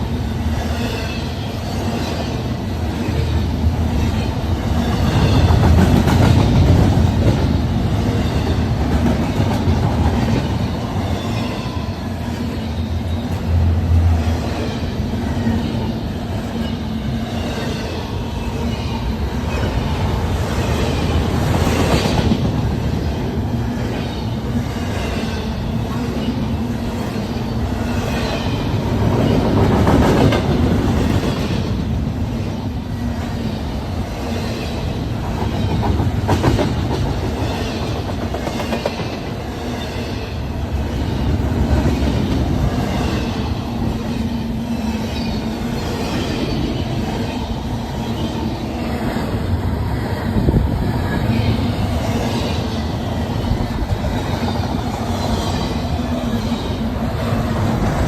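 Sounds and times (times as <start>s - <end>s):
train wheels clattering on rails: 0.0s - 18.0s, 18.7s - 58.0s.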